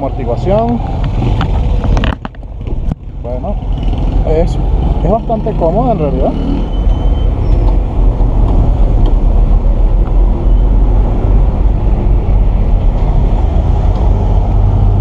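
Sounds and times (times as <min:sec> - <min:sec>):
motorcycle engine low rumble: 0:00.0 - 0:15.0.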